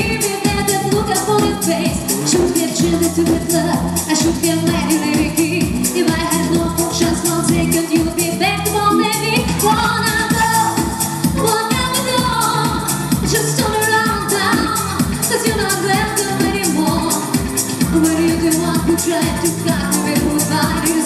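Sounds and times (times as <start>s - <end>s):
keyboard and electronic backing: 0.0s - 21.0s
steady dance beat: 0.0s - 21.0s
women singing pop song: 0.0s - 21.0s.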